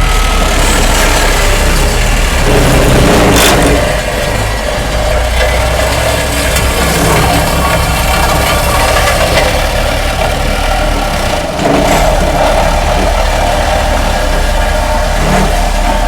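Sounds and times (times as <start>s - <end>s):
diesel engine running: 0.0s - 16.0s
vibratory roller low pulsing: 0.0s - 16.0s.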